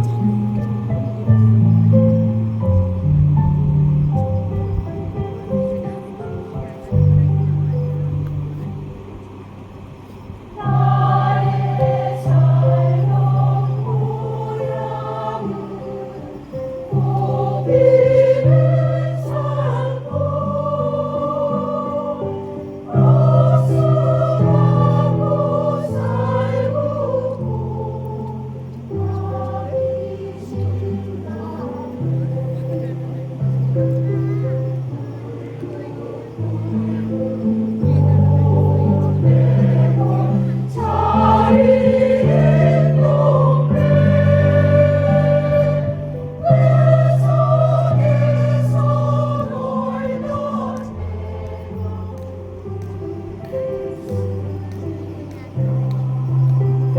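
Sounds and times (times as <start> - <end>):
choir singing sustained chords: 0.0 - 56.9.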